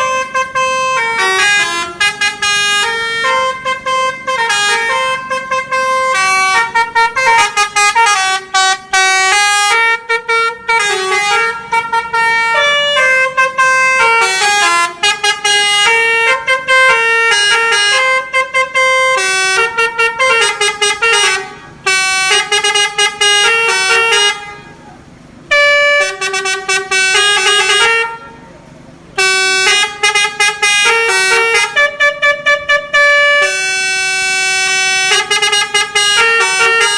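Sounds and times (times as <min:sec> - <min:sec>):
bus horn playing a melody: 0:00.0 - 0:36.9.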